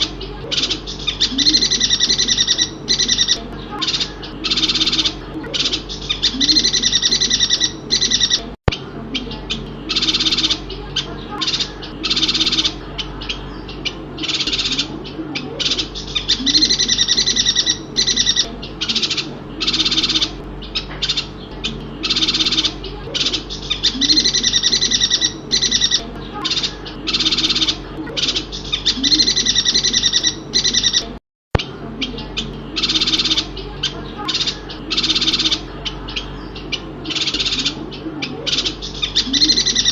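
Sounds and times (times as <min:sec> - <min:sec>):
bird high-pitched chattering calls: 0:00.0 - 0:39.9.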